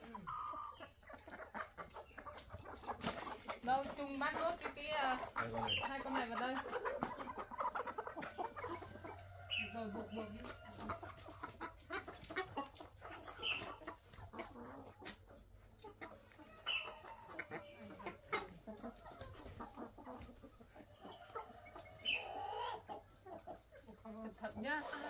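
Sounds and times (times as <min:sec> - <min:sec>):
hens clucking: 0:00.0 - 0:25.0.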